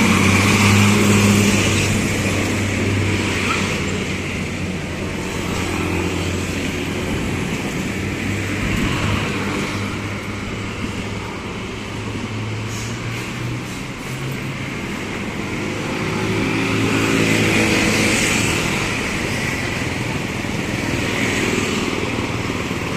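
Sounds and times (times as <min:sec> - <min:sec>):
street traffic hum: 0:00.0 - 0:22.9.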